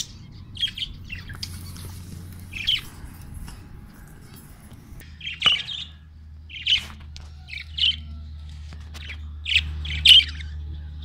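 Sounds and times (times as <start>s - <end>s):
budgerigars chirping: 0.0s - 8.2s, 8.9s - 11.0s
low steady hum: 0.0s - 11.0s.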